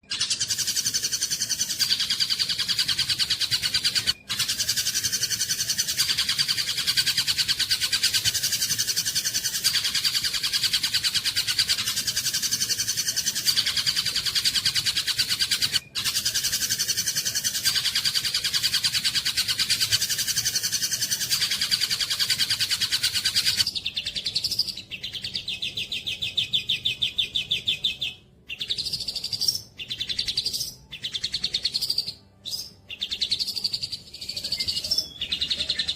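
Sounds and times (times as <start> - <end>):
bird chattering song: 0.0 - 35.9.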